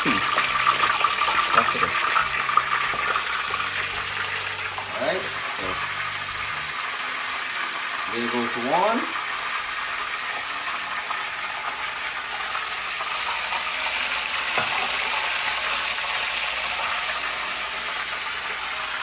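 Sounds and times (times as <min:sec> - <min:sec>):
squid sizzling in hot oil: 0:00.0 - 0:19.0.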